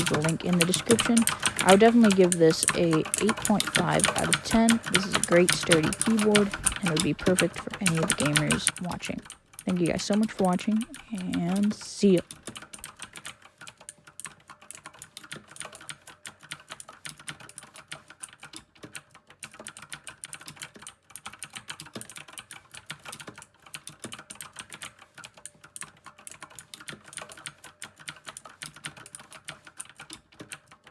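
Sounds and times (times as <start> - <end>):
fast typing on mechanical keyboard: 0.0 - 30.9.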